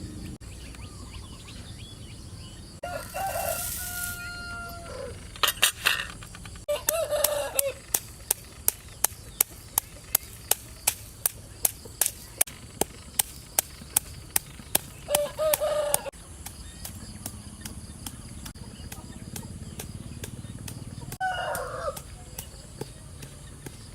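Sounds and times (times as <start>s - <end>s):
chickens calling: 0.0s - 23.9s.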